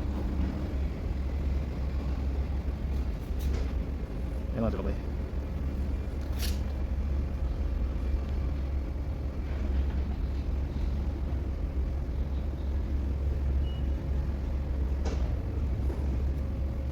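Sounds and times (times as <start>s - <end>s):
low engine rumble: 0.0s - 16.9s.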